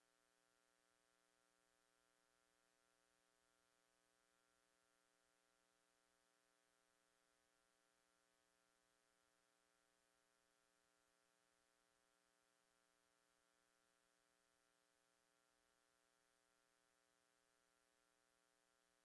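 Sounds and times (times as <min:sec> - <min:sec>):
faint electrical hum with hiss: 0:00.0 - 0:19.0.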